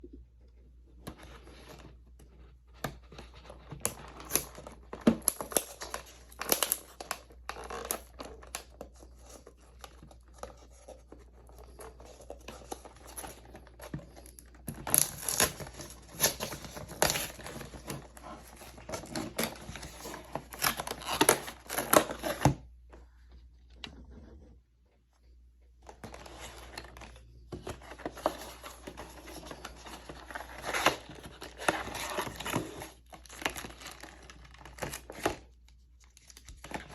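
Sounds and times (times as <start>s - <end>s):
plastic packaging crinkling and tearing: 3.6s - 22.6s, 25.9s - 36.9s.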